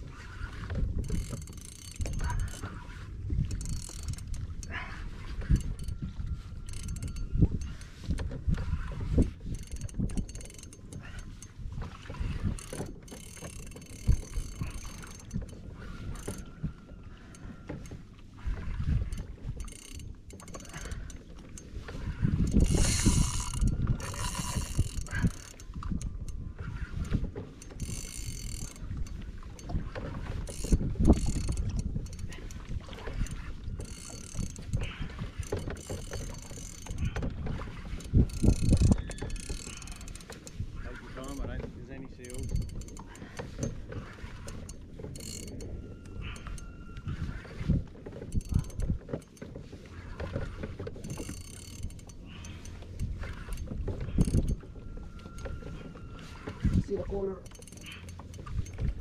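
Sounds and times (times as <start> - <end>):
wind buffeting microphone: 0.0 - 21.1, 21.7 - 49.1, 50.0 - 59.0
fishing reel whirring and clicking: 0.0 - 59.0
water against boat hull: 0.0 - 59.0.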